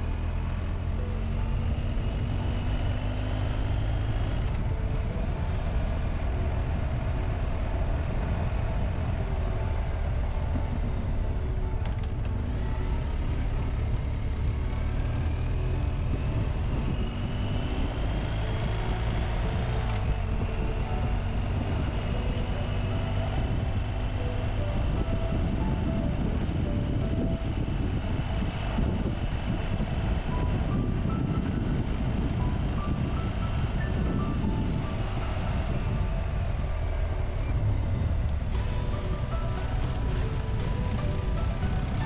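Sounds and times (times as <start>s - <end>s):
motorcycle engine drone with whine: 0.0s - 42.0s.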